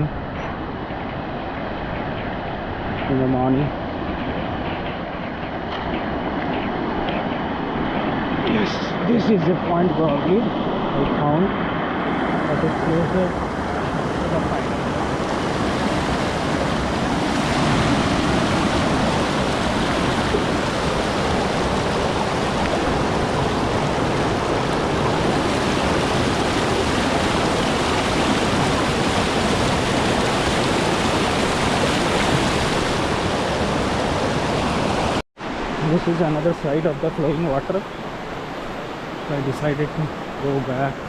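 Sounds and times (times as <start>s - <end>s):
water rushing over rocks: 0.0s - 41.0s.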